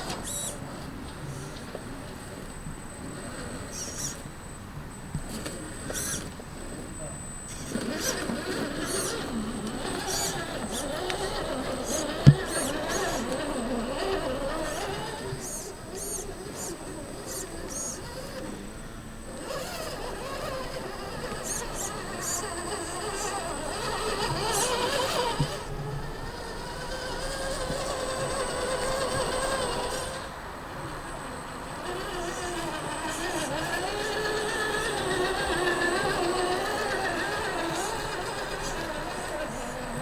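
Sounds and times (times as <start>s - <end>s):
toy car electric motor whining: 0.0s - 40.0s.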